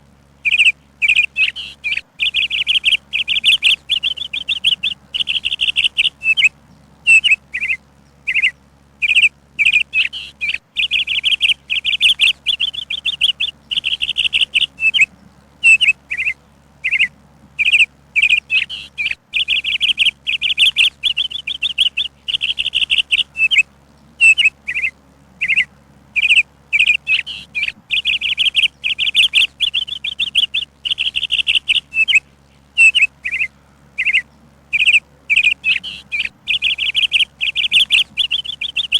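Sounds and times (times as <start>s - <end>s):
songbird chirping and singing: 0.4s - 38.9s.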